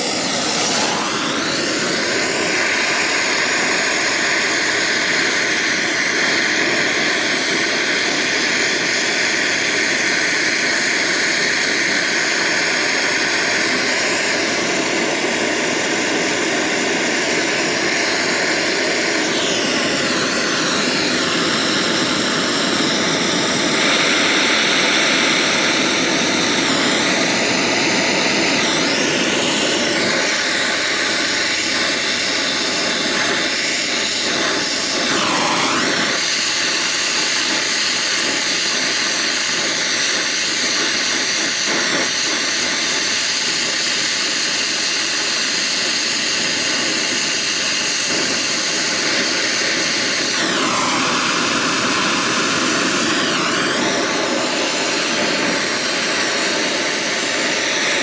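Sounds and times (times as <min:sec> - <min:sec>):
torch flame hissing: 0:00.0 - 0:58.0.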